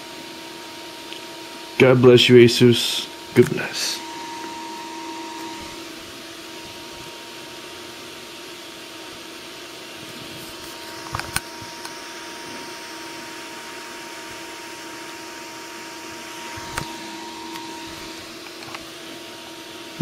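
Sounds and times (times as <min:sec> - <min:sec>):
computer cooling fans whirring: 0:00.0 - 0:20.0.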